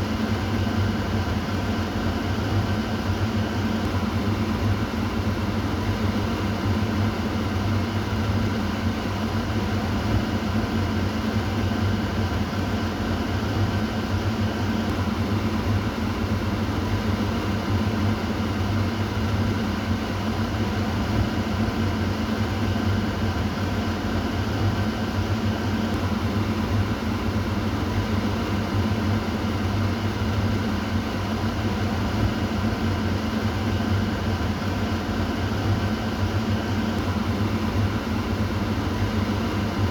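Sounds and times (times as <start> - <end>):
kitchen exhaust fan running: 0.0 - 39.9.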